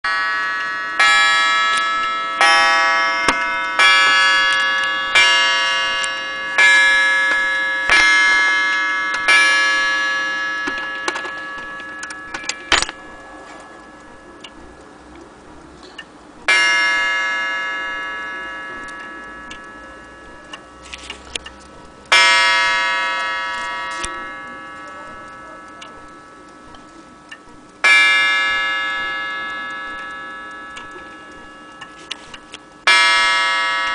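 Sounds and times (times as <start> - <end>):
mantle clock striking: 0.0 - 33.9
clock ticking: 0.1 - 33.9.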